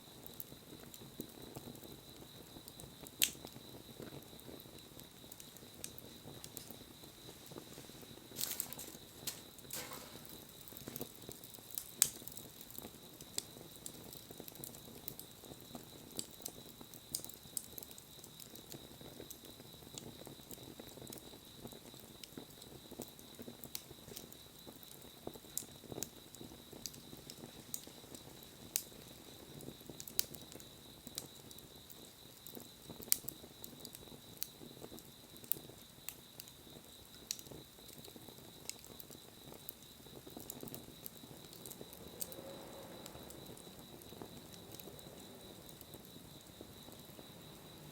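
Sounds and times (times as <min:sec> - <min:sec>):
wood fire crackling: 0:00.0 - 0:47.9
soft rush of flames: 0:00.1 - 0:18.9, 0:20.9 - 0:47.9
sharp pops from fire: 0:00.1 - 0:47.9.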